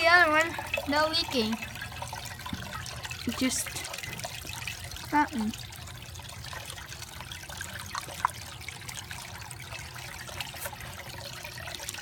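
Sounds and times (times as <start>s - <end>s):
low steady hum: 0.0s - 12.0s
water trickling and splashing: 0.0s - 12.0s.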